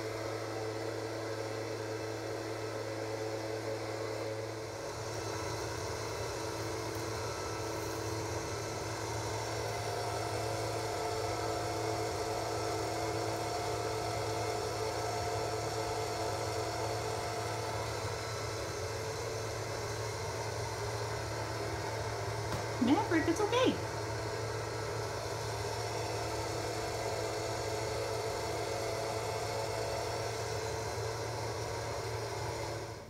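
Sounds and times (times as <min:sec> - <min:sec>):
electric motor hum and whir: 0:00.0 - 0:33.0.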